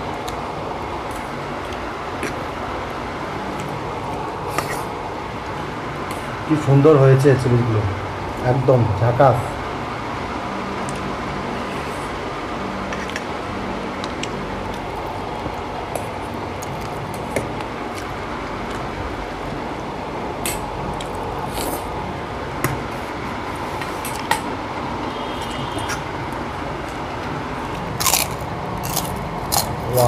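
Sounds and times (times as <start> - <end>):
room noise: 0.0 - 30.0.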